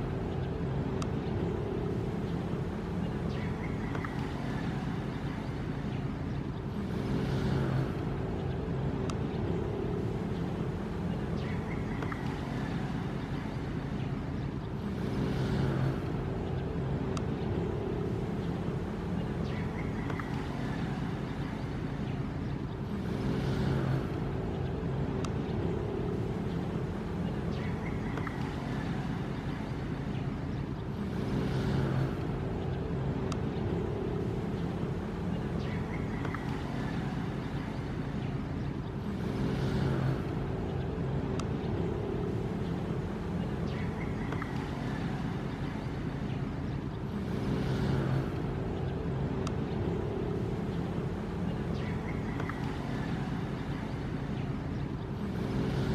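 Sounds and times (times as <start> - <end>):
ocean waves washing in: 0.0 - 55.9.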